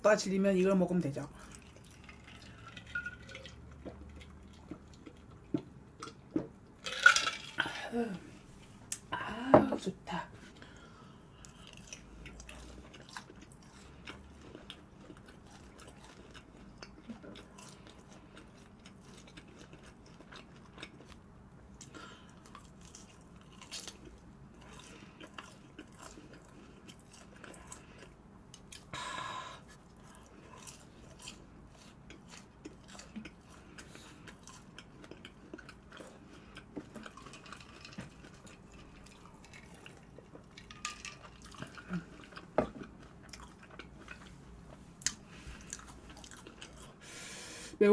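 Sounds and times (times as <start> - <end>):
chewing crispy chicken: 1.4 - 6.2, 10.7 - 47.2.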